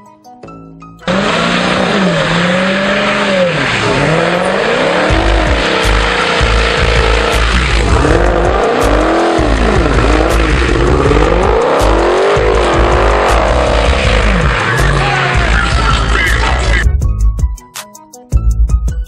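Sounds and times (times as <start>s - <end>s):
car sound rising and falling: 1.0s - 16.8s
music with heavy bass beat: 1.0s - 19.0s.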